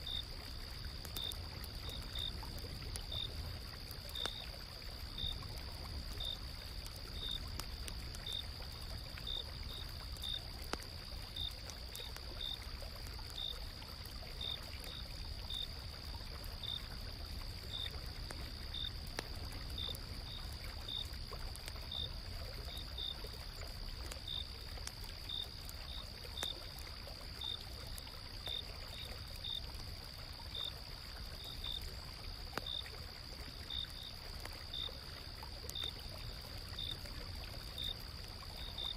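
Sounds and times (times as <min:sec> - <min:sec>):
campfire crackles: 0:00.0 - 0:38.9.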